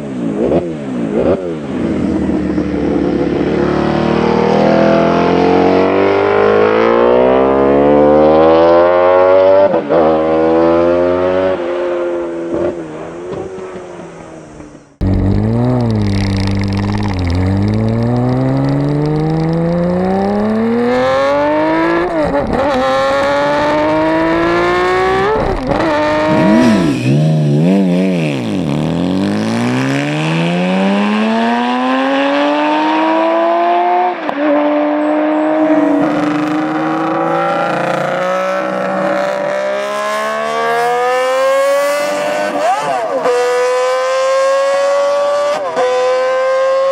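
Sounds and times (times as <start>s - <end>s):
motorcycle engine accelerating: 0.0s - 13.9s, 14.9s - 46.9s.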